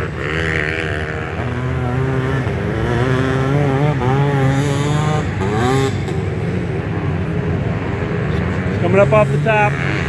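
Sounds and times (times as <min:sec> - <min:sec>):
motocross bikes revving: 0:00.0 - 0:10.0.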